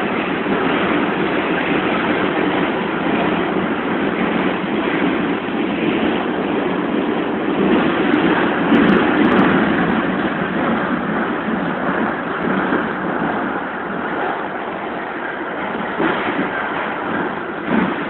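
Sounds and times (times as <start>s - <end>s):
subway wheels on rails: 0.0s - 18.0s.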